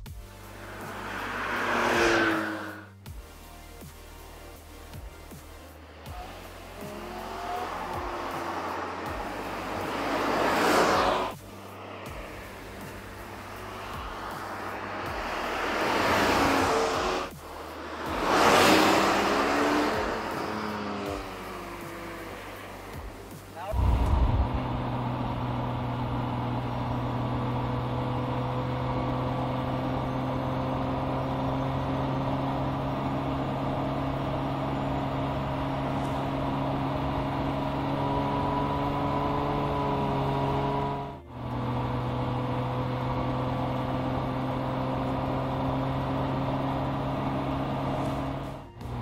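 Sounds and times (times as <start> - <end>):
car engine cruising: 0.0 - 49.0
road noise: 0.0 - 49.0.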